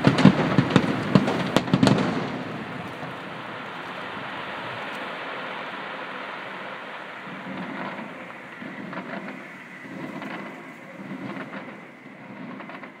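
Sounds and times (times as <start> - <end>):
fireworks booming: 0.0 - 13.0
fireworks crackling: 0.0 - 13.0
hiss of crackling: 0.0 - 13.0.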